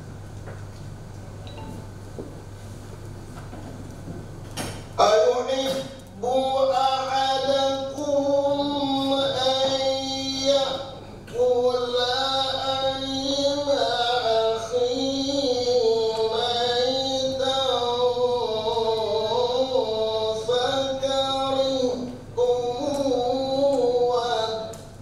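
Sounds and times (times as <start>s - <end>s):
man reciting melodically: 5.0s - 25.0s.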